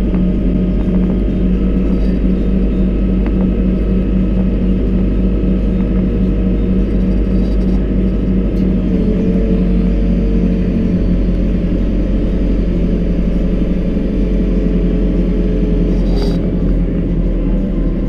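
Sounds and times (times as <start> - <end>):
diesel engine running: 0.0 - 18.0
faint steady whine: 0.0 - 18.0.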